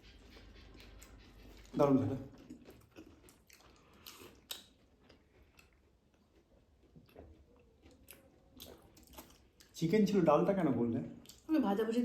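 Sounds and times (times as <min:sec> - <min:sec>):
soft clicks of eating: 0:00.0 - 0:09.8, 0:11.2 - 0:11.6
faint chewing: 0:00.0 - 0:10.2, 0:11.1 - 0:12.0.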